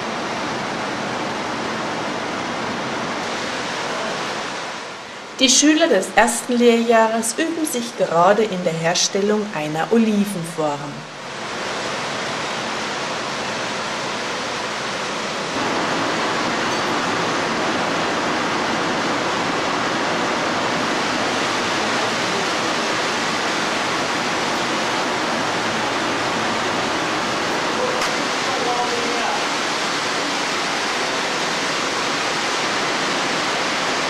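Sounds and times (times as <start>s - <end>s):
gas burner flames roaring: 0.0s - 6.7s, 10.6s - 34.0s.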